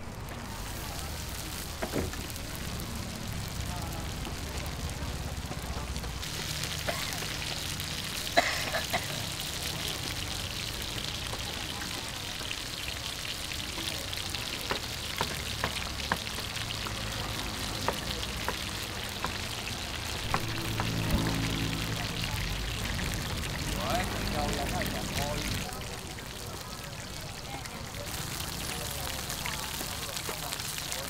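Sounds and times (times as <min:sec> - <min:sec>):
dumplings sizzling in oil: 0:00.1 - 0:31.0.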